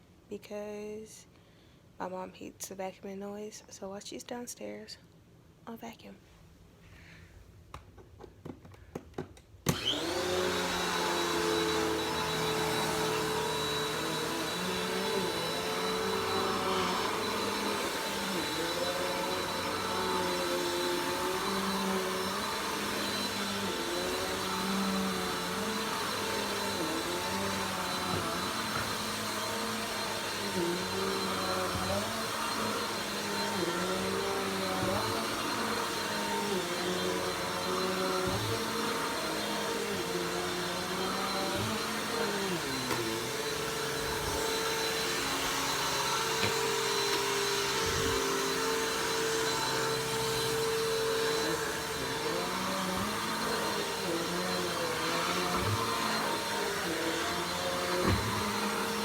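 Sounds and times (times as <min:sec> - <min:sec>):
vacuum cleaner running: 0:09.6 - 0:59.0.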